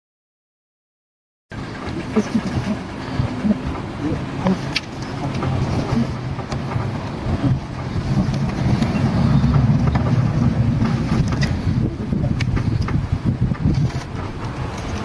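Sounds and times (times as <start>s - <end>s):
engine running steadily: 1.5s - 15.0s
sharp clicks and knocks: 1.8s - 15.0s.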